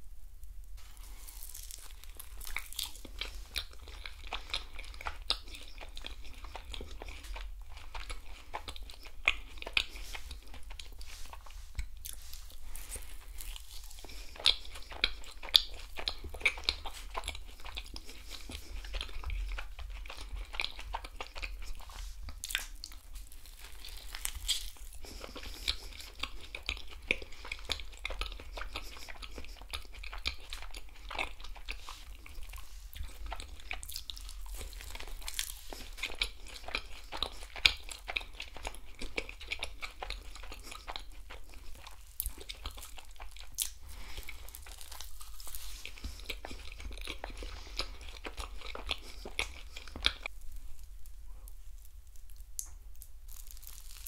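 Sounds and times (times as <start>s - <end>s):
person chewing with wet clicks: 0.9s - 54.0s.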